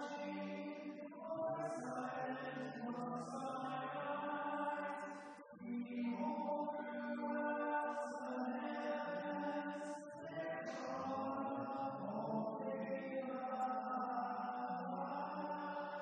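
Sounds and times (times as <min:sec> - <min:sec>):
people singing a slow hymn: 0:00.0 - 0:16.0.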